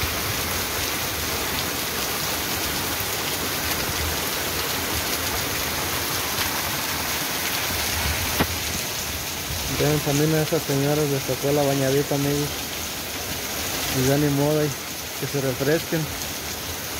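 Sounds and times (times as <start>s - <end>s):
heavy rain on stone pavement: 0.0s - 16.9s.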